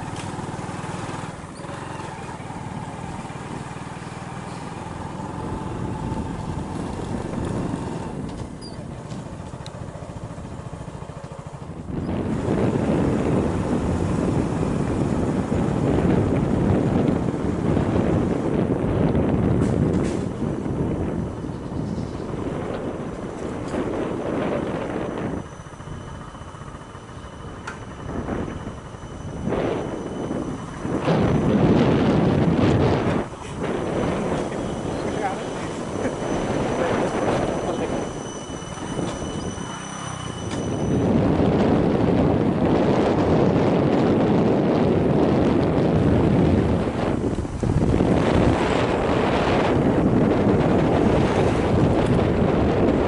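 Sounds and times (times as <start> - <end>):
vehicle engine running: 0.0 - 53.0
wind buffeting microphone: 0.0 - 53.0.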